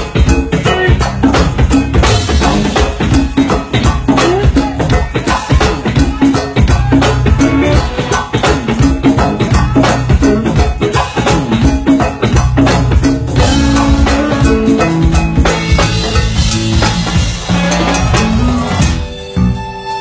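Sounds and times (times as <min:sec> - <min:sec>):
steady drum beat: 0:00.0 - 0:19.8
bass line: 0:00.0 - 0:20.0
live band playing: 0:00.0 - 0:20.0.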